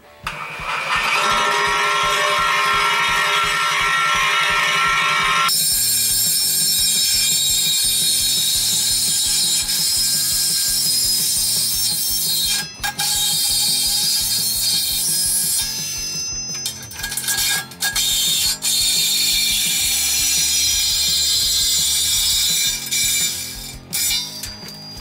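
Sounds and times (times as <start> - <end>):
reciprocating saw cutting steel: 0.2 - 25.0.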